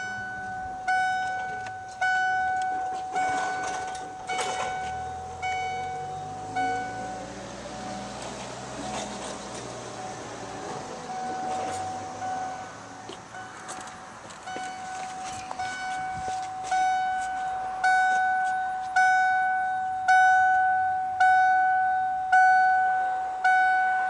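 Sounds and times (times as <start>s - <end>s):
dashboard warning chime: 0.0s - 9.1s, 11.0s - 13.8s, 14.4s - 24.0s.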